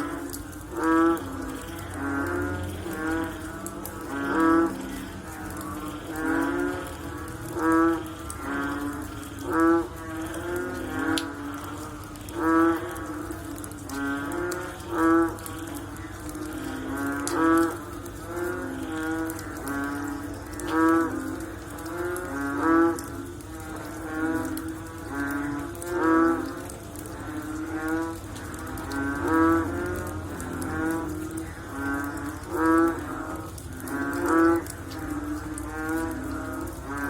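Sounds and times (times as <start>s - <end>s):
frogs calling: 0.0s - 37.0s.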